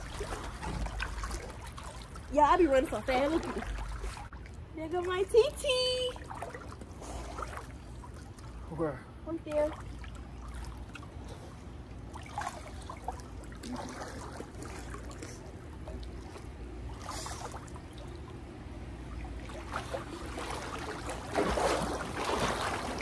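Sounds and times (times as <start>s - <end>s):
pool water sloshing: 0.0s - 23.0s
water splashes: 0.0s - 23.0s.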